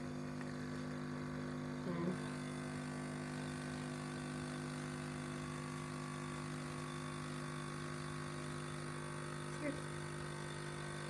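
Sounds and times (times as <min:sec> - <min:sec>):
coffee machine pump humming: 0:00.0 - 0:11.0.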